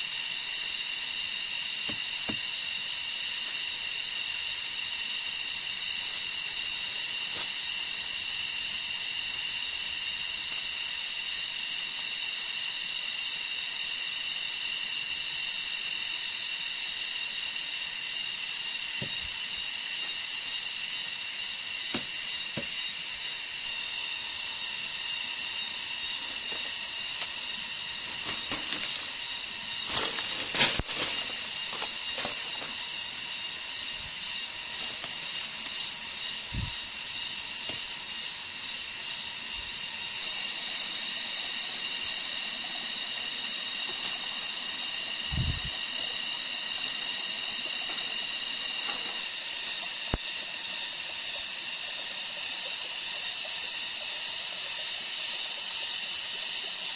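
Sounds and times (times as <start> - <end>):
high-pitched insect drone: 0.0 - 56.9.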